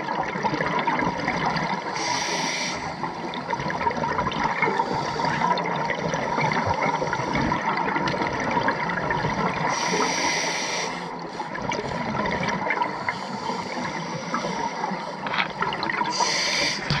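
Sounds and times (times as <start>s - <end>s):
muffled underwater water noise: 0.0s - 17.0s
regulator bubbles hissing: 0.0s - 17.0s.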